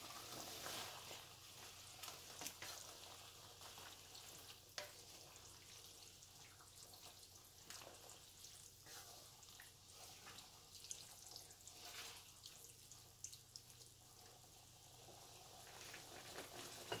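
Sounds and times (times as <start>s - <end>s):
wooden spoon stirring sauce: 0.0s - 17.0s.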